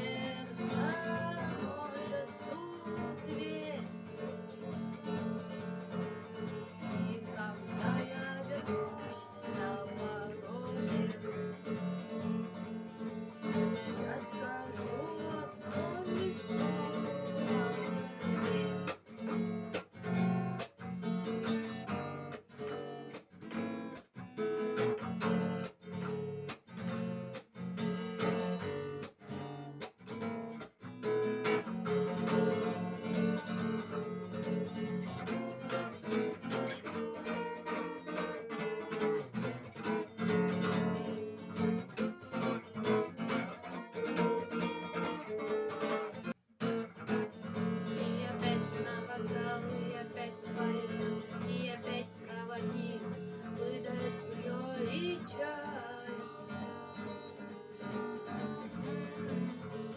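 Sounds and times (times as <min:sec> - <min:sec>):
guitar strumming chords: 0:00.0 - 0:59.9.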